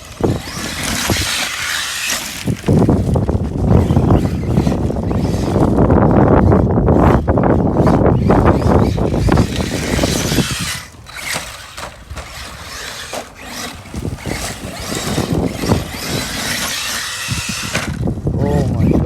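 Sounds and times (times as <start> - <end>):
electric motor whine: 0.0 - 19.0
wind rumble on microphone: 0.0 - 19.0.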